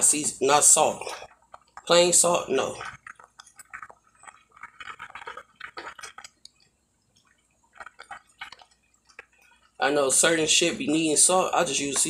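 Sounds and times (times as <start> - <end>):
boiling water splashing and bubbling: 0.0 - 12.0.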